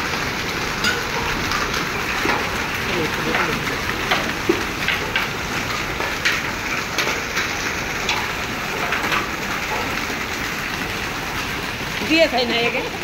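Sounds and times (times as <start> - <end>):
hailstones ticking: 0.0 - 13.0
rain and hail hissing: 0.0 - 13.0.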